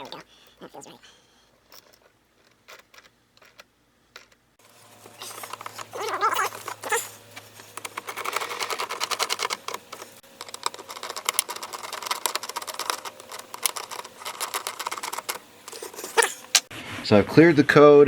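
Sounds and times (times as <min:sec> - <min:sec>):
rapid irregular clicking: 0:01.5 - 0:16.7.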